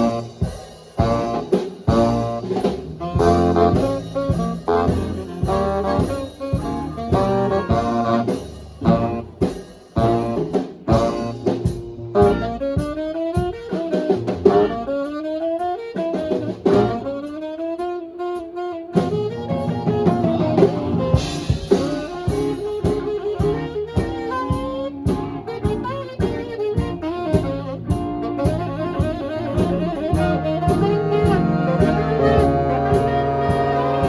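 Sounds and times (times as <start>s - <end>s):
horn lead line: 0.0s - 34.0s
swing band playing: 0.0s - 34.0s.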